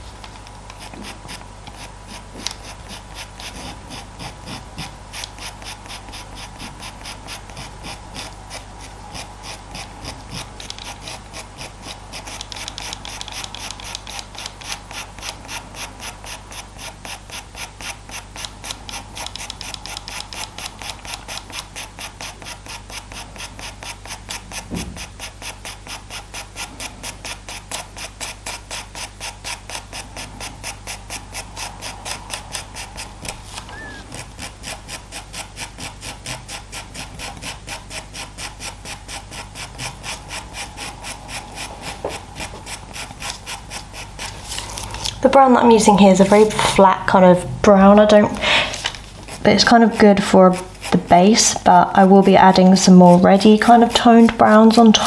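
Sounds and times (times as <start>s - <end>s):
pencil scratching on paper: 0.0s - 55.0s.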